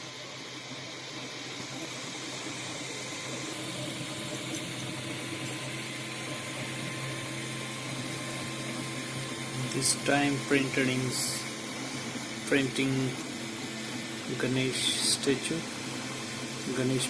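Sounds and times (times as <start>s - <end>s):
three-d printer humming: 0.0s - 17.0s.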